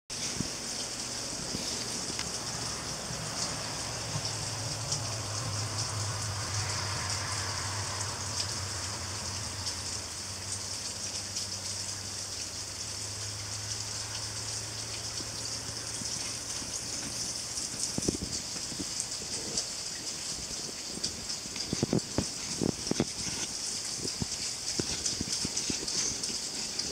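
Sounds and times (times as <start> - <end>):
steady rain falling: 0.1 - 26.9.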